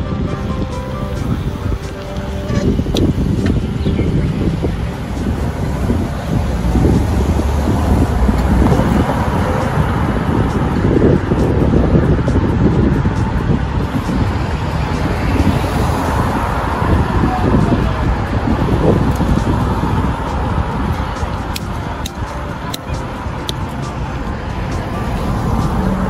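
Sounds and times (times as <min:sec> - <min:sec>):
car traffic: 0:00.0 - 0:26.0
wind buffeting microphone: 0:00.0 - 0:26.0.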